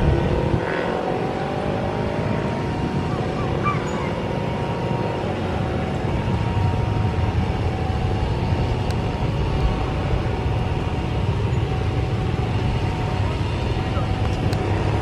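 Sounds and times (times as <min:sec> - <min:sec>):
distant jet engines idling: 0:00.0 - 0:15.0.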